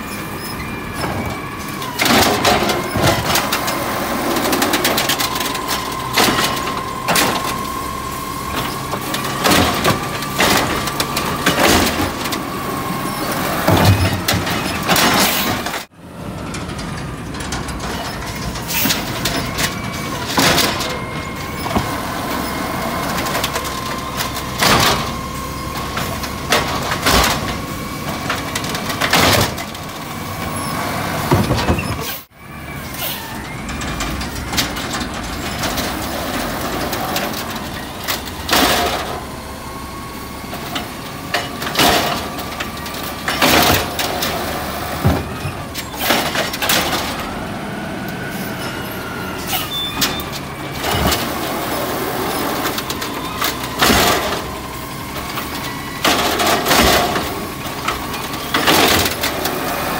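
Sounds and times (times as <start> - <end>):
truck engine running: 0.0 - 59.9
knocks and bangs of cart: 0.9 - 32.3, 33.0 - 39.3, 40.4 - 47.4, 48.9 - 59.9.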